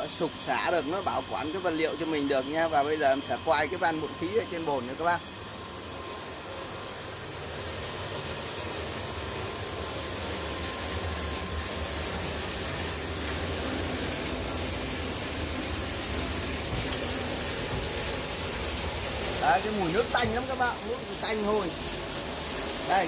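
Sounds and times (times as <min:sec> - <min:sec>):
low pump hum: 0:00.0 - 0:23.0
water rushing into tank: 0:00.0 - 0:23.0.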